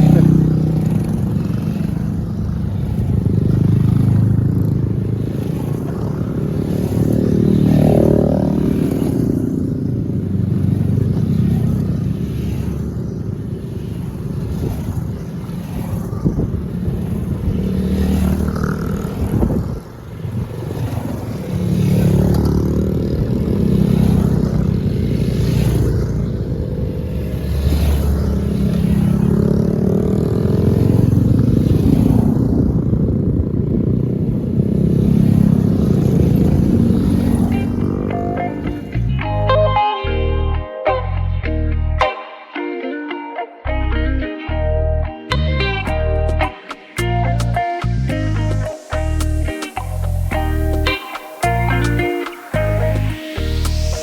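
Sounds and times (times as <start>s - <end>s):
wind on microphone: 0.0s - 39.5s, 45.3s - 54.0s
motorcycles riding past: 0.0s - 40.6s, 42.4s - 54.0s.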